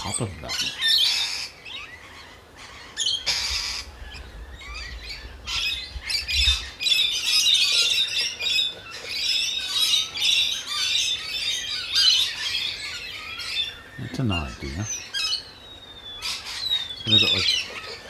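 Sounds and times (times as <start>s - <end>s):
birds squawking and chirping: 0.0s - 18.0s.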